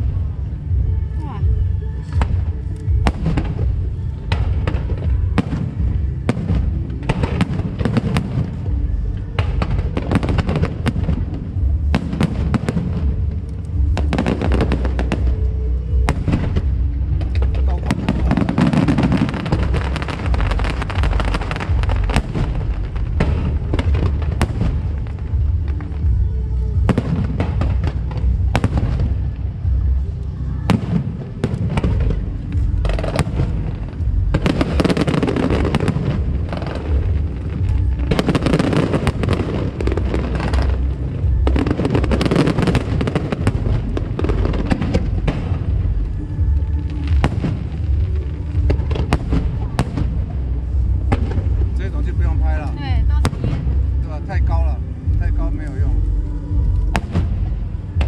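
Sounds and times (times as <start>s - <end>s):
fireworks bangs and crackles: 0.0s - 58.0s
low rumble: 0.0s - 58.0s
music playing: 0.0s - 58.0s.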